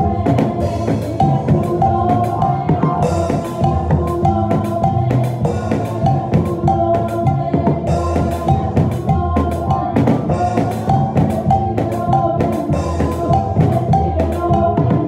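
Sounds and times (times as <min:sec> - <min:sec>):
music with steady drum beat: 0:00.0 - 0:15.0.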